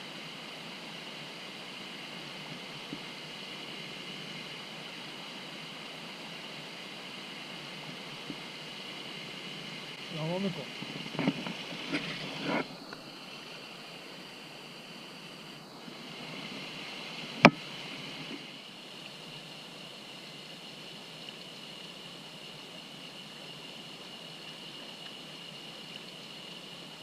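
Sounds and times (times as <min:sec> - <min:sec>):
mountain stream running: 0:00.0 - 0:27.0.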